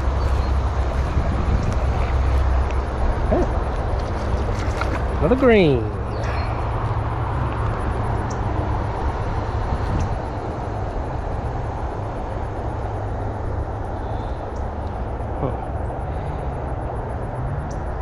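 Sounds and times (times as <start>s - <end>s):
highway traffic roar: 0.0s - 18.0s.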